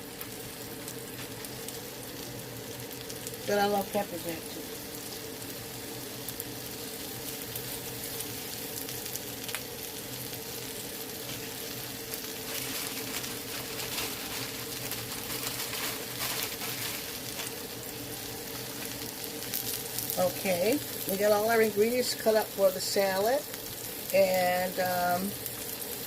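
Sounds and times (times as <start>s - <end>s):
burger patties sizzling: 0.0s - 26.0s.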